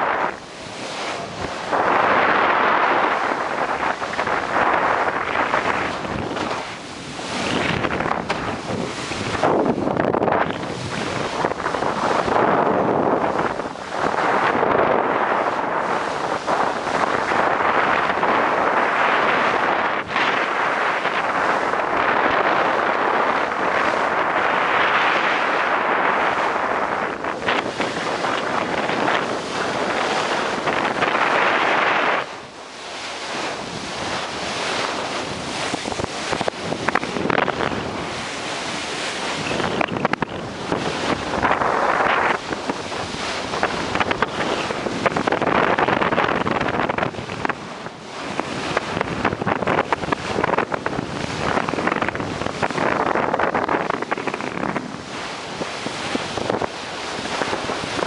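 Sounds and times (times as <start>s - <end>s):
water rushing and splashing: 0.0s - 58.0s
wind buffeting microphone: 0.0s - 58.0s.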